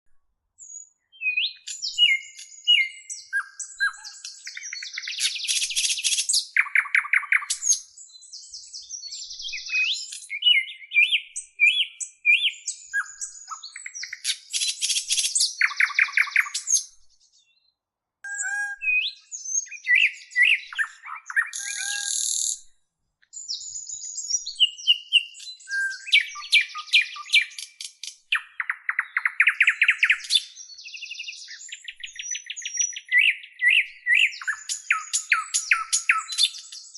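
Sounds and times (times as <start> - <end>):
songbird singing: 0.1 - 36.9.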